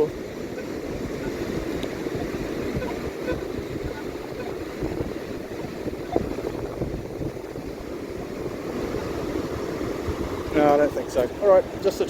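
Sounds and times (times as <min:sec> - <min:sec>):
surf washing on beach: 0:00.0 - 0:12.0
wind buffeting microphone: 0:00.0 - 0:12.0.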